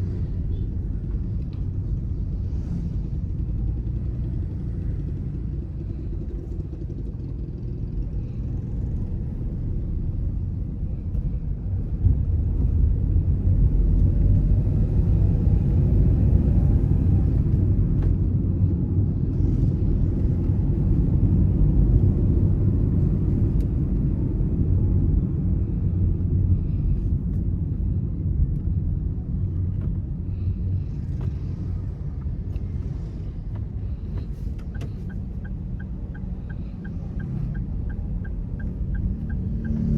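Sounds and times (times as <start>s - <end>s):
car engine and tyres on road: 0.0s - 39.9s.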